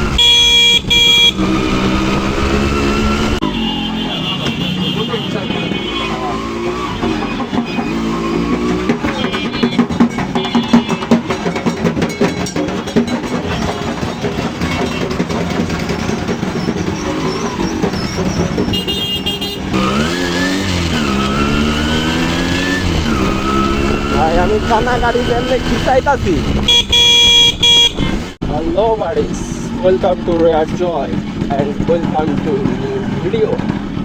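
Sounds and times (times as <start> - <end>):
two-stroke motorcycle engine revving: 0.0 - 34.0
drumming: 4.4 - 34.0.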